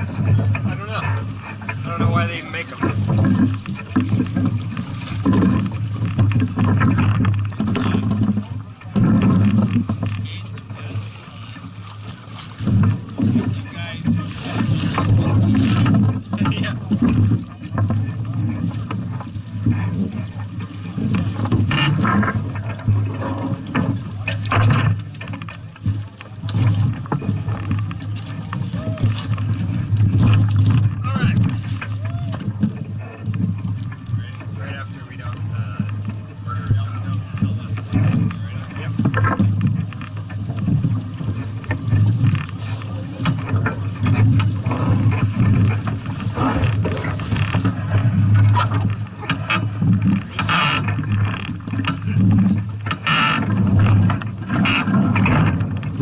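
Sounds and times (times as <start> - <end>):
water splashing: 0.0 - 56.0.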